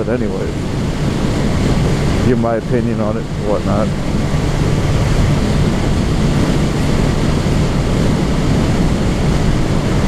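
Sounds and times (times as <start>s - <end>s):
motorcycle engine drone: 0.0s - 10.0s
wind noise on microphone: 0.0s - 10.0s.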